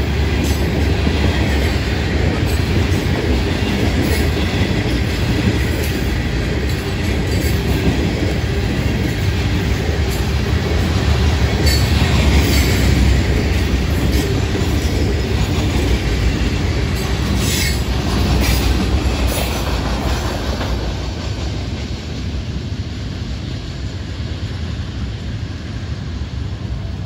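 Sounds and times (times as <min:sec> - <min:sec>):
train cars rolling over rails: 0:00.0 - 0:27.0.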